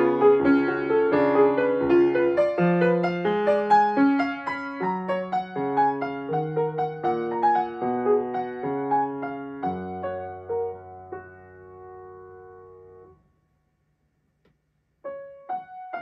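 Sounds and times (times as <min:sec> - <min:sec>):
solo grand piano classical piece: 0:00.0 - 0:13.2, 0:15.0 - 0:16.0.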